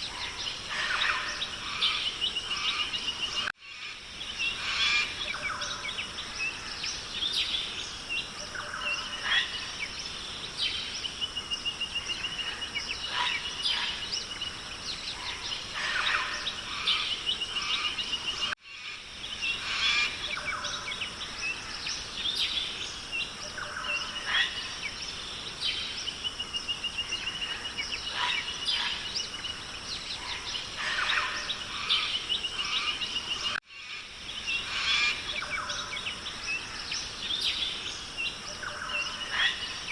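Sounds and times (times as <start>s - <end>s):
birds calling and chirping: 0.0s - 39.9s
steady background hiss: 0.0s - 39.9s.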